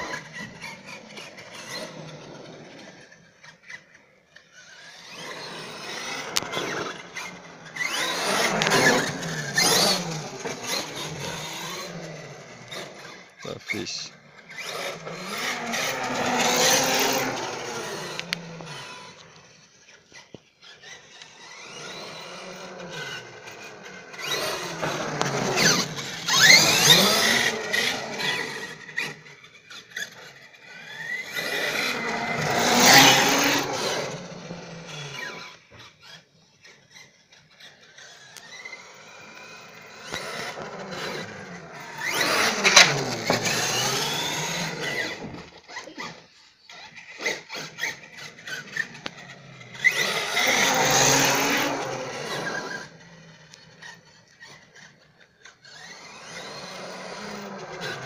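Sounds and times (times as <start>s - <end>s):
rc truck motor whining: 0.0s - 58.0s.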